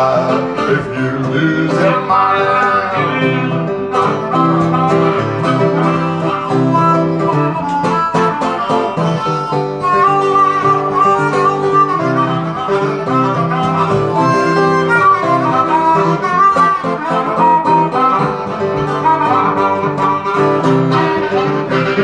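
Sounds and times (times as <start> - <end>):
acoustic guitar: 0.0 - 22.0
blues harmonica melody: 0.0 - 22.0.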